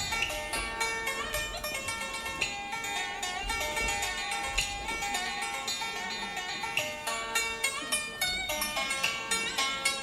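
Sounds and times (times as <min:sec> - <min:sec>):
dance music with plucked strings: 0:00.0 - 0:10.0.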